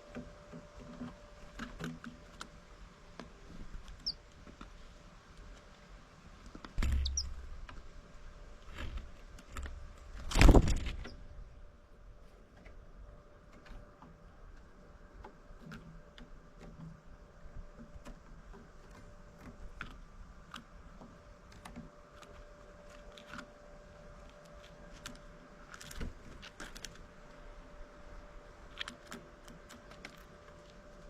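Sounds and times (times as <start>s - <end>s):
birds pecking at seeds: 0.0s - 11.2s, 12.2s - 31.0s
faint steady hum: 0.0s - 31.0s.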